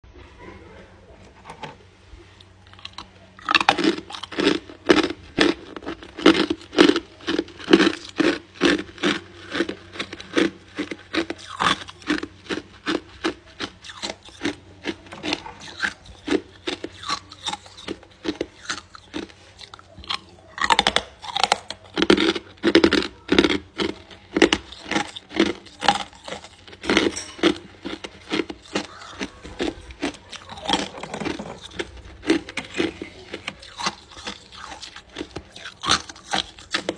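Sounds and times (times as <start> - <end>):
ice crunching between teeth: 2.7 - 36.9.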